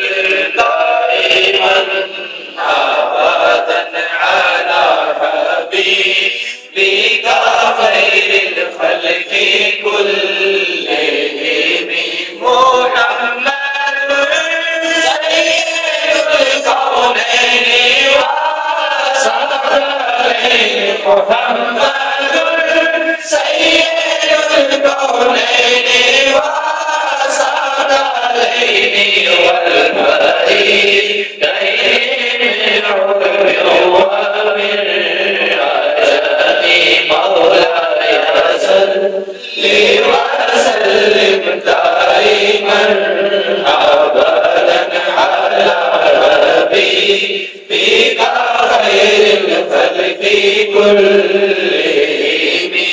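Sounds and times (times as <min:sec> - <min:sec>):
man singing devotional hymn: 0:00.0 - 0:52.9.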